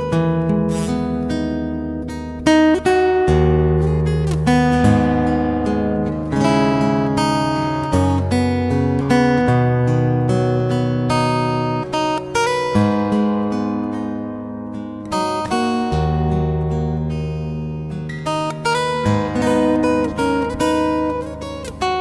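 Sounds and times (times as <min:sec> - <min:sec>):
strummed acoustic guitar chords: 0:00.0 - 0:22.0.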